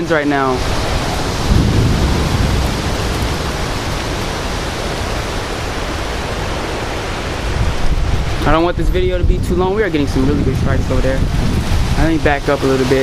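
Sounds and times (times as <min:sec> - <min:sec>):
strong wind rushing: 0:00.0 - 0:13.0
wind buffeting microphone: 0:00.6 - 0:13.0.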